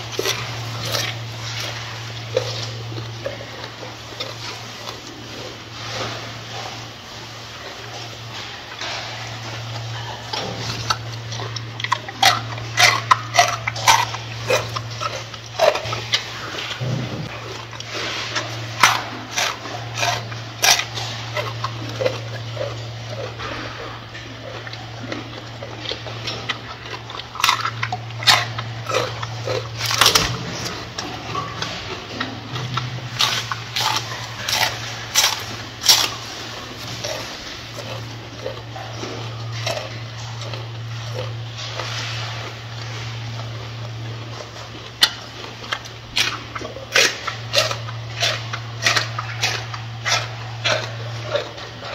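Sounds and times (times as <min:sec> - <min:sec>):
gorilla chewing lettuce: 0:00.0 - 0:51.9
steady low hum: 0:00.0 - 0:51.9.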